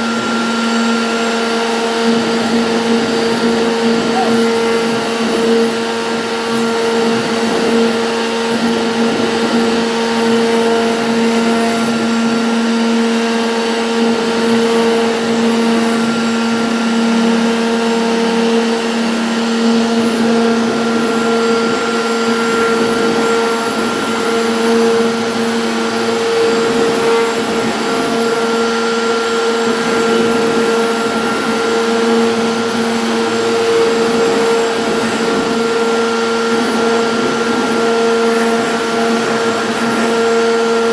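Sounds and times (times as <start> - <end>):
router spindle whine: 0.0 - 40.9
hiss of cutting: 0.2 - 40.9.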